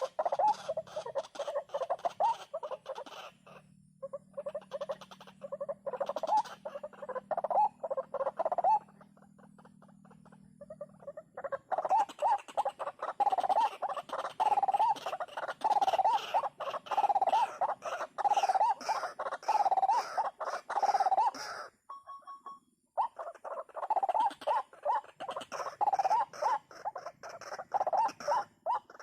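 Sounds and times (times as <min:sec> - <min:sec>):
waterhen croaking call: 0:00.0 - 0:29.0.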